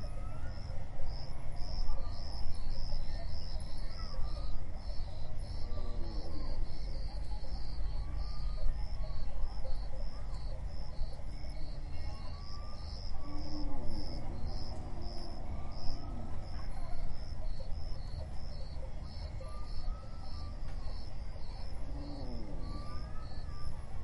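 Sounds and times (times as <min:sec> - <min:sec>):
constant low rumble: 0:00.0 - 0:24.0
insects chirping: 0:00.1 - 0:24.0.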